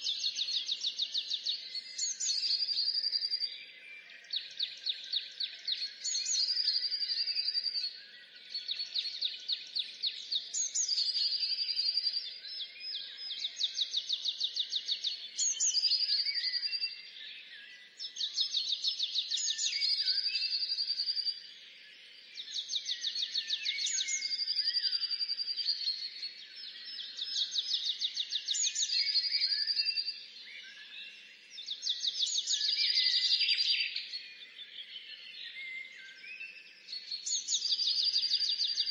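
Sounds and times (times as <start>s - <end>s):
songbird singing trill: 0.0s - 38.9s.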